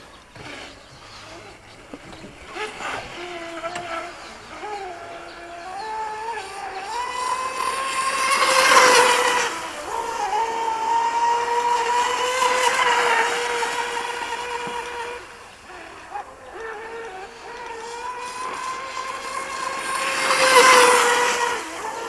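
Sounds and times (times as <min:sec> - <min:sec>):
electric boat motor whine: 0:00.0 - 0:22.0.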